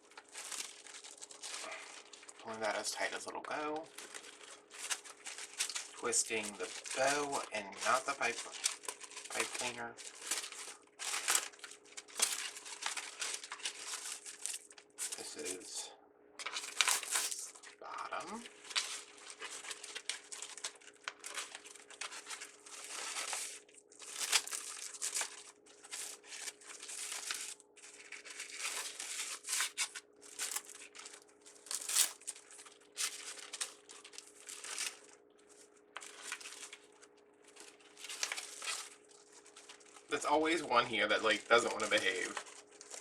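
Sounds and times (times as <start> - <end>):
ribbon crinkling and rustling: 0.0 - 15.8, 16.4 - 43.0
faint steady hum: 0.0 - 43.0.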